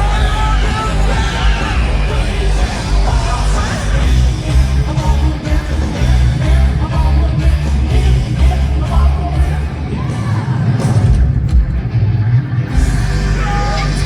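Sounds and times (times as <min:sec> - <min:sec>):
electric guitar: 0:00.0 - 0:14.0
heavy pulsing bass: 0:00.0 - 0:14.0.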